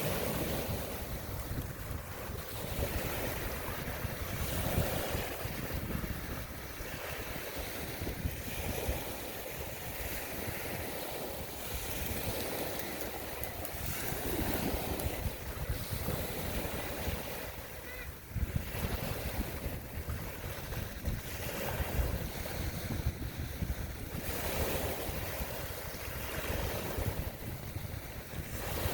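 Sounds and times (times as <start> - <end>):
waves washing: 0.0 - 28.9
wind buffeting microphone: 0.0 - 28.9.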